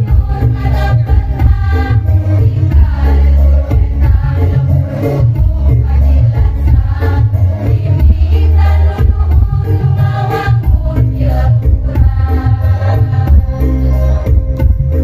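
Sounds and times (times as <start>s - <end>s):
women's choir singing: 0.0s - 14.4s
music with heavy bass line: 0.0s - 15.0s.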